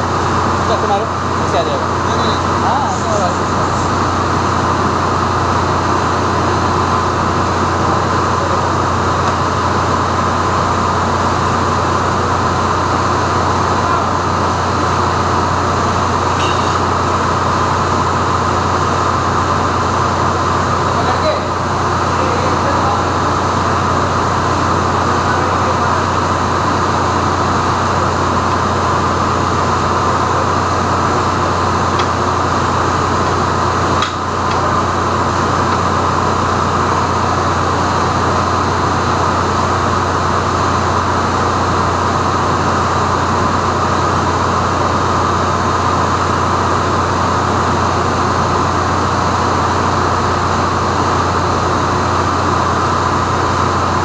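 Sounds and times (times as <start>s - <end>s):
engine-room machinery drone: 0.0s - 54.0s.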